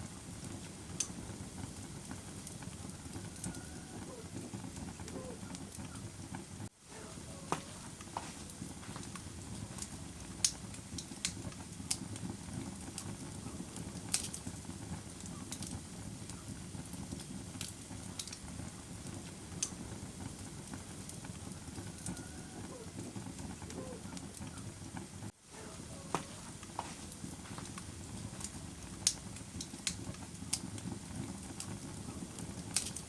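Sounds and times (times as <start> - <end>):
low rush of flames: 0.0 - 33.0
wood fire crackling: 0.0 - 33.0.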